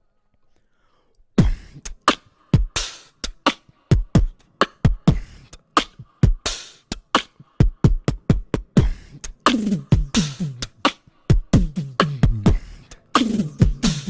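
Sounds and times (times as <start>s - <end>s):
vocal beatbox beat: 1.4s - 14.0s.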